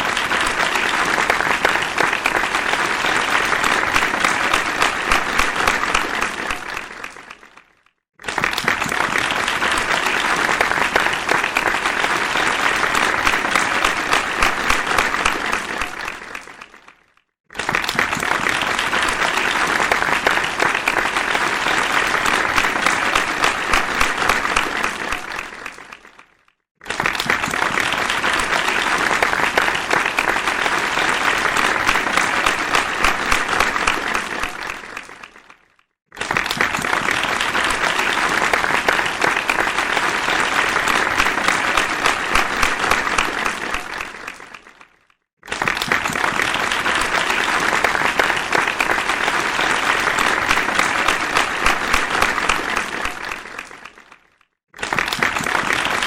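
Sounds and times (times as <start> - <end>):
crowd applauding: 0.0 - 56.0.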